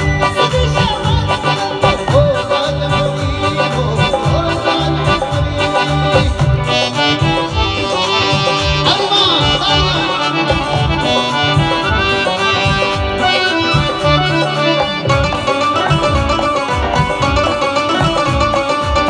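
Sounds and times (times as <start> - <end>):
live band over loudspeakers: 0.0 - 19.0.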